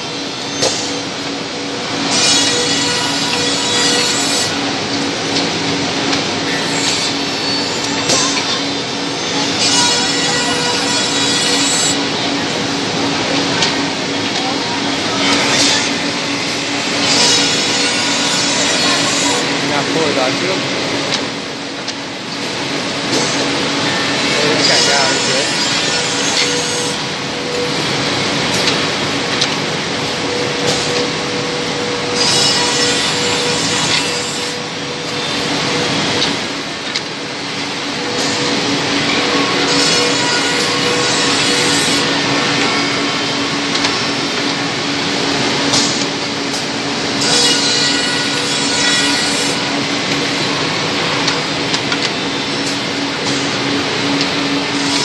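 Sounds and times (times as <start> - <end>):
woodworking machine humming: 0.0 - 55.0.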